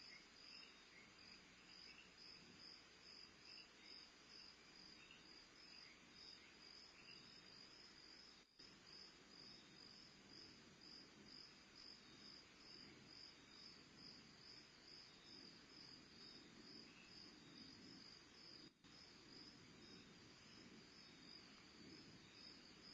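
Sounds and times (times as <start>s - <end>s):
faint crickets chirping: 0.0s - 22.9s
low background hiss: 0.0s - 22.9s.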